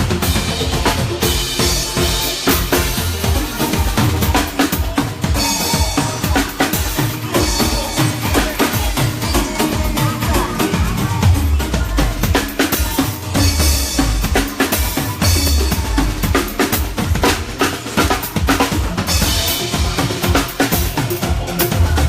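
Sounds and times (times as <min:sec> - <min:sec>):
bass line: 0:00.0 - 0:22.0
live band playing: 0:00.0 - 0:22.0.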